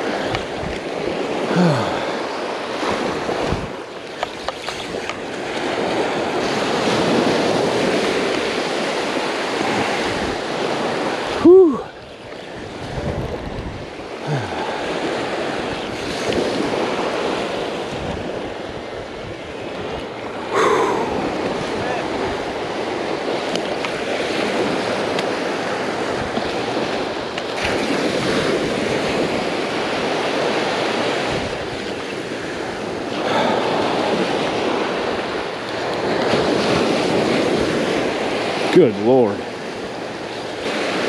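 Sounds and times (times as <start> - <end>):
wind on microphone: 0.0 - 38.7
surf breaking on beach: 0.0 - 41.0.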